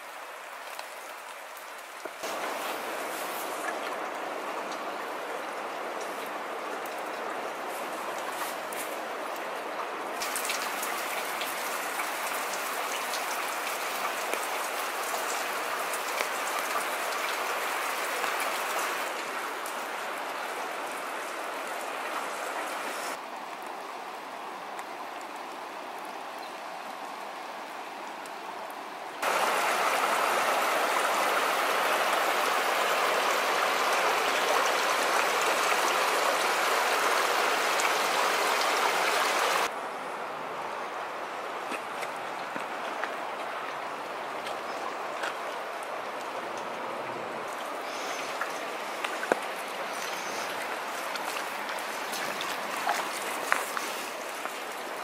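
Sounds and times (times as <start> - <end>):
water dripping and trickling: 0.0 - 23.7, 29.2 - 39.7, 41.6 - 55.0
creek running over stones: 0.0 - 55.0.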